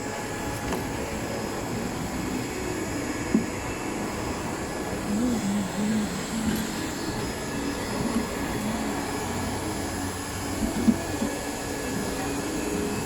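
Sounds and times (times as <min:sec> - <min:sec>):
blower motor running: 0:00.0 - 0:13.0.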